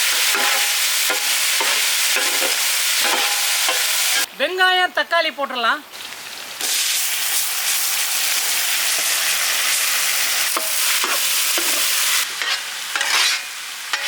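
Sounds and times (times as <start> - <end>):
onion frying in hot oil: 0.0 - 4.3, 5.9 - 14.0.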